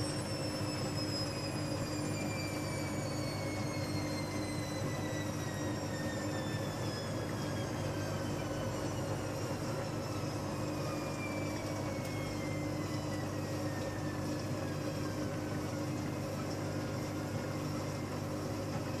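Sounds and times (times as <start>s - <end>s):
mechanical hum with falling whine: 0.0s - 19.0s.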